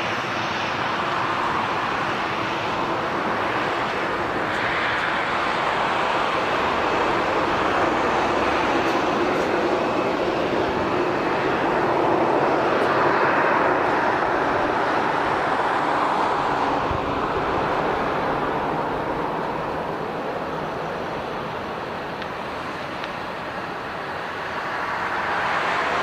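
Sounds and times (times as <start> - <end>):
jet airliner engines: 0.0 - 26.0.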